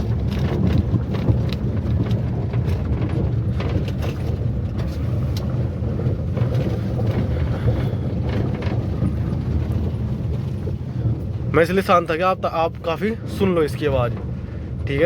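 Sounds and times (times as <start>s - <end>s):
car body rattling: 0.0s - 15.0s
road and engine rumble: 0.0s - 15.0s.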